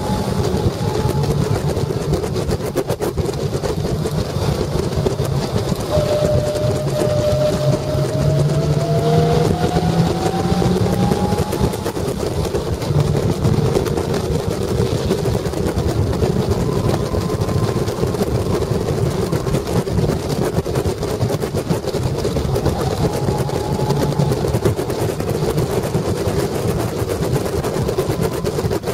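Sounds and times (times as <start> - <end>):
car engine pulling hard: 0.0 - 28.9
road noise: 0.0 - 28.9
wind noise: 0.0 - 28.9.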